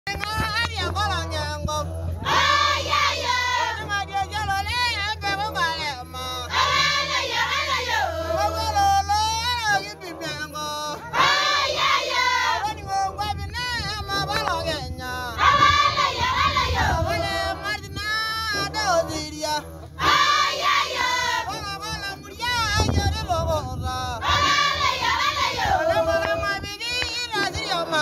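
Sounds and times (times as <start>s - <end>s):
group singing: 0.1s - 28.0s.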